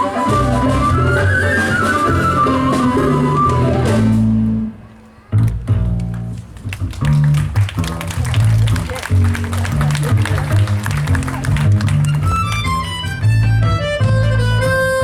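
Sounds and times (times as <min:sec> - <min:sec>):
bass notes: 0:00.0 - 0:15.0
guitar: 0:00.0 - 0:15.0.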